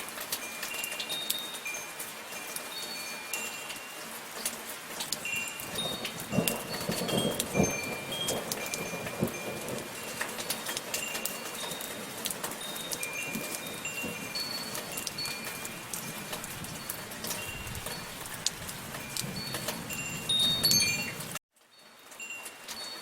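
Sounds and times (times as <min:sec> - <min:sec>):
rain falling: 0:00.0 - 0:23.0
wind chimes ringing: 0:00.2 - 0:04.5, 0:05.1 - 0:23.0.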